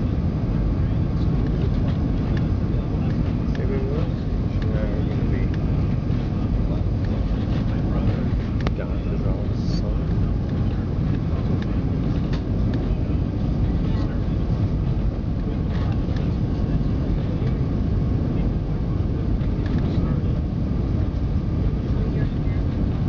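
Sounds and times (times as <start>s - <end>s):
aircraft cabin engine roar: 0.0s - 23.0s.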